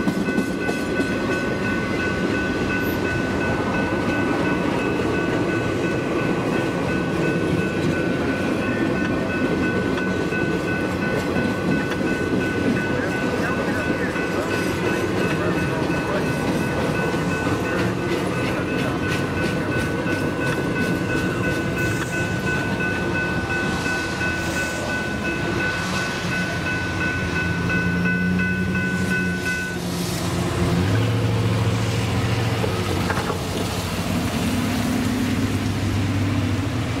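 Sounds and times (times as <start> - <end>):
railroad crossing bell ringing: 0.0 - 32.3
freight train wheels clattering: 0.0 - 37.0
road vehicles humming: 0.0 - 37.0.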